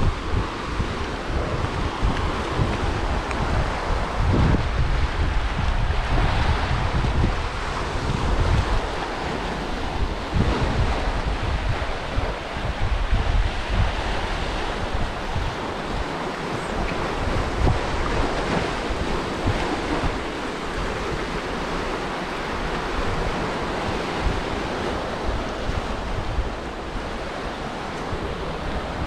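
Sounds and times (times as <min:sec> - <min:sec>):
surf breaking over rocks: 0:00.0 - 0:29.0
wind on microphone: 0:00.0 - 0:29.0.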